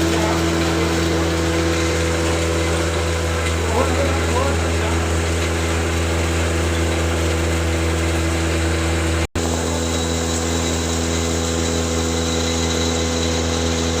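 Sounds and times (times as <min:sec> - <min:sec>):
grinder machine humming: 0:00.0 - 0:14.0.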